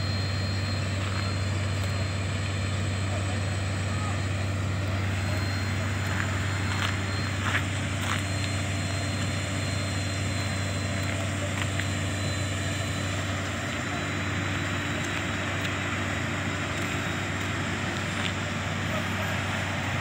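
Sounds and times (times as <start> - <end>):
constant noisy rush: 0.0 - 20.0
fire engine engine drone: 0.0 - 20.0.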